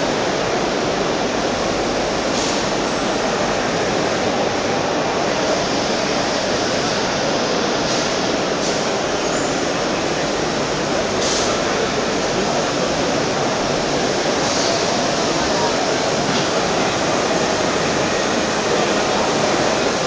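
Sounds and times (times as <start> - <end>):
exhibition hall ambience: 0.0 - 20.0.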